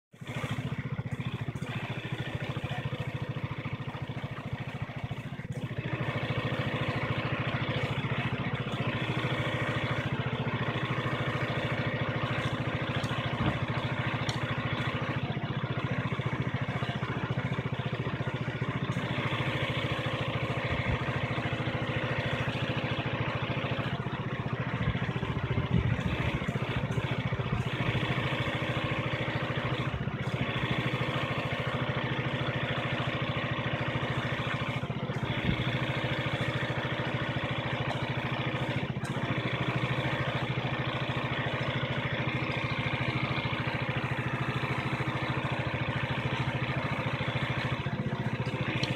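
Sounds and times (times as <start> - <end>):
small engine pump running: 0.1 - 48.9.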